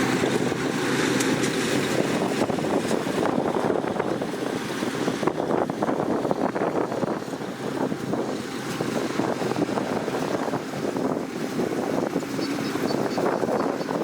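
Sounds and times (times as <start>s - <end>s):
combine harvester rumbling: 0.0s - 14.0s.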